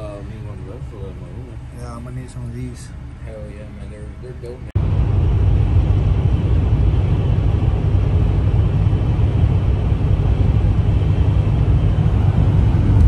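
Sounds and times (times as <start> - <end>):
truck engine and tyre noise: 0.0 - 13.0.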